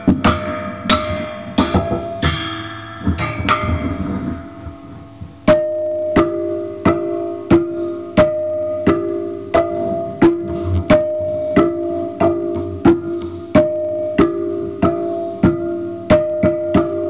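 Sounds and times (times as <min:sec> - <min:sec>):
metallic strikes on noise box: 0:00.0 - 0:17.0.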